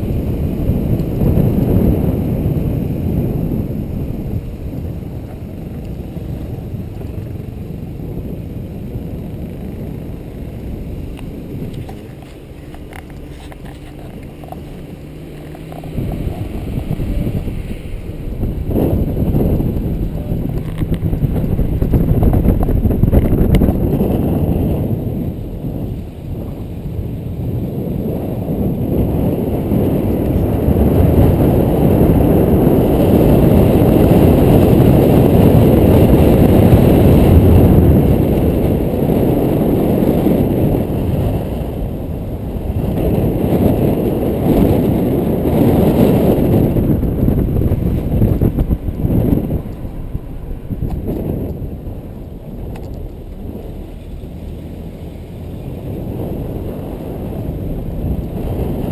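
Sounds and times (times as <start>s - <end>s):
car road noise: 0.0s - 58.9s
wind buffeting microphone: 0.0s - 58.9s.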